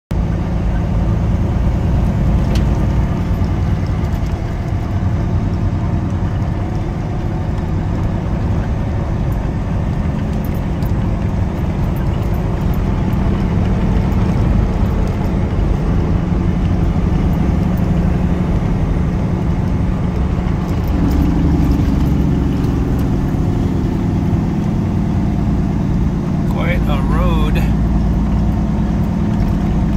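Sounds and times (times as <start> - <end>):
diesel truck engine drone: 0.1 - 29.9
road noise: 0.1 - 29.9.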